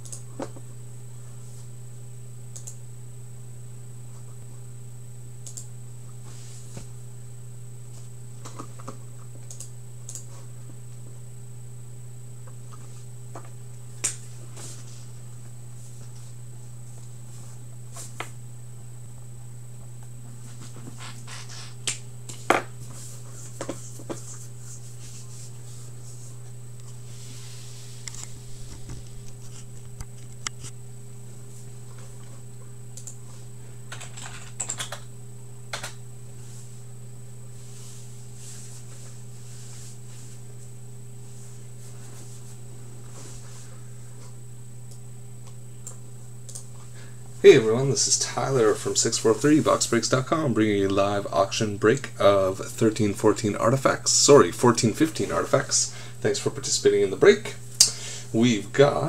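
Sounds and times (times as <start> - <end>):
faint high whine: 0.0 - 59.0
low electrical hum: 0.0 - 59.0.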